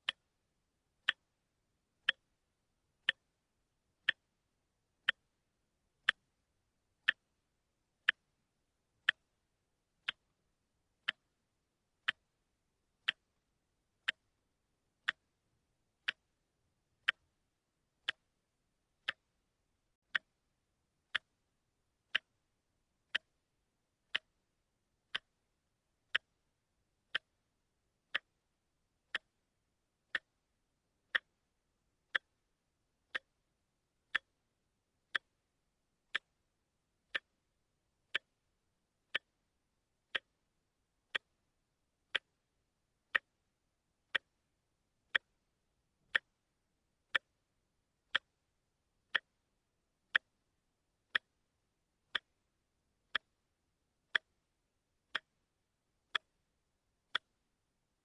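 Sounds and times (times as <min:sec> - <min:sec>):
watch ticking: 0:00.0 - 0:01.4, 0:02.0 - 0:02.4, 0:03.0 - 0:18.4, 0:19.0 - 0:19.4, 0:20.0 - 0:34.5, 0:35.1 - 0:46.5, 0:47.1 - 0:48.5, 0:49.1 - 0:53.5, 0:54.1 - 0:57.7.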